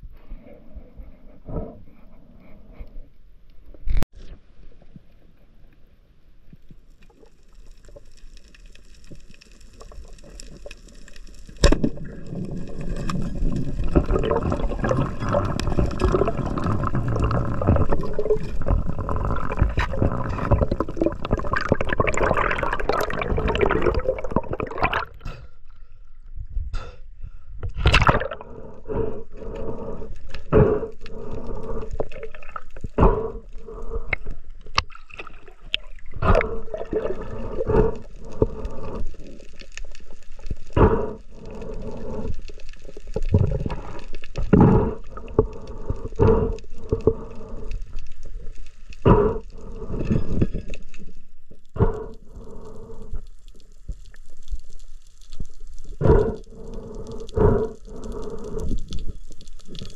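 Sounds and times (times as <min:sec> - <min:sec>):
water sloshing and gurgling: 0:06.6 - 0:26.7, 0:27.4 - 0:59.9.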